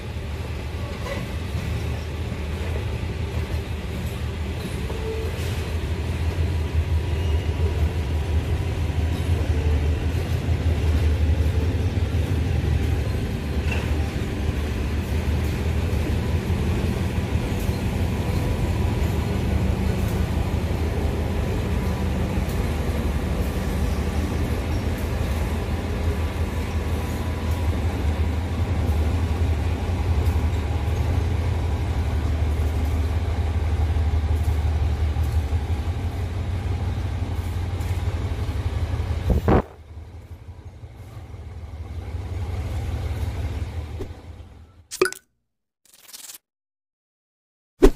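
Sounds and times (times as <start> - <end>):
diesel train engine rumble: 0.0 - 44.9.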